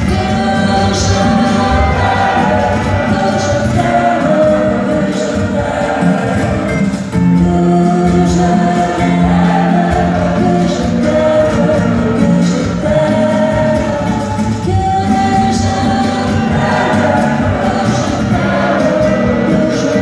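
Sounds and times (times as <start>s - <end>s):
choir singing held chords: 0.0s - 14.6s, 15.5s - 20.0s
soloist singing into microphone: 0.0s - 20.0s.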